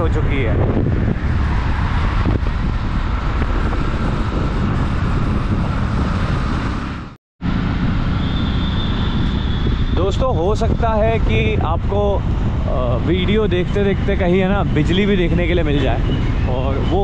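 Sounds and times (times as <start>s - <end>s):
vehicle road and wind rumble: 0.0s - 17.0s.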